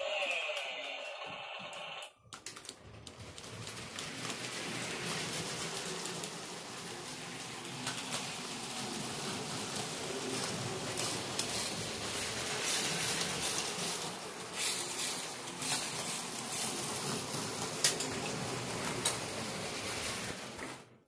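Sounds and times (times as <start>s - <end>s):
toy train rattling on plastic track: 0.0s - 21.0s.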